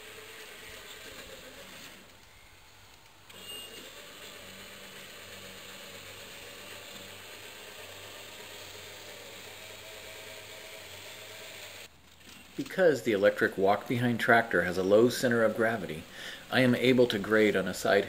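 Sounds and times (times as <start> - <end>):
electric tractor running: 0.0 - 18.0.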